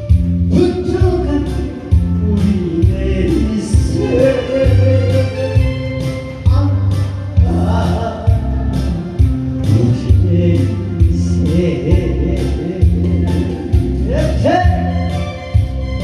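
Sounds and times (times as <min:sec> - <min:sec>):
pop song backing music: 0:00.0 - 0:16.0.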